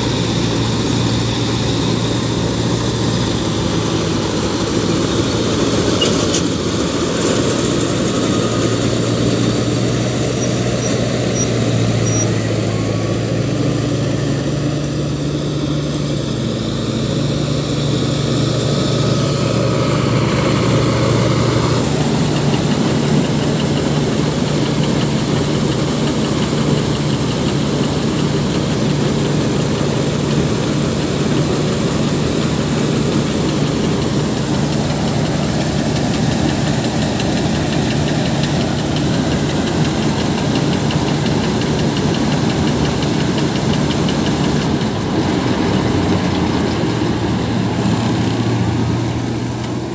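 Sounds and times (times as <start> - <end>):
harvester machinery running: 0.0 - 49.9
tractor diesel engine under load: 0.0 - 49.9.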